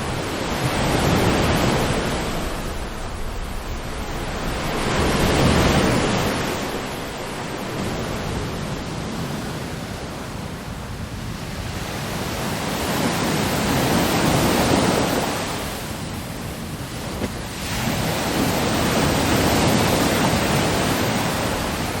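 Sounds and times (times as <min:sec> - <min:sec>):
ocean waves washing in and out: 0:00.0 - 0:22.0.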